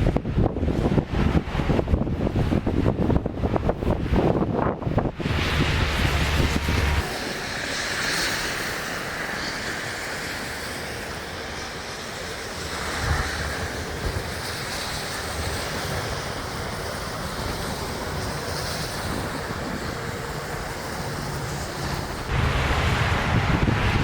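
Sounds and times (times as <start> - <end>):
rushing blizzard wind: 0.0 - 24.0
wind gusts hitting microphone: 0.0 - 24.0.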